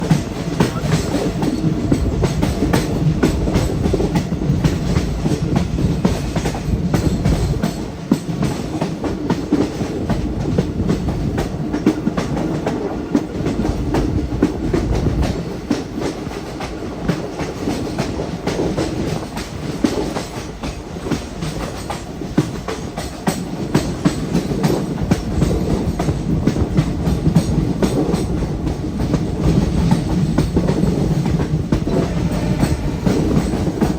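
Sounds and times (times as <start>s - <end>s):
train rumbling: 0.0s - 33.9s.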